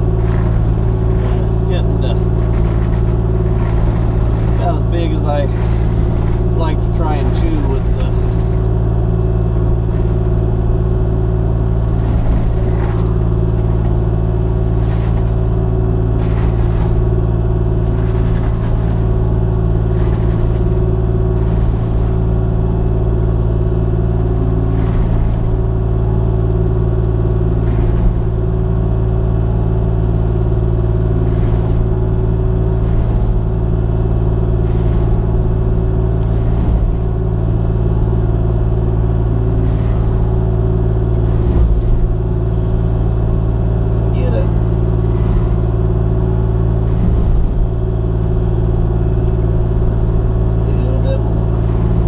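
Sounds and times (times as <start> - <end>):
diesel engine at high revs: 0.0 - 52.0.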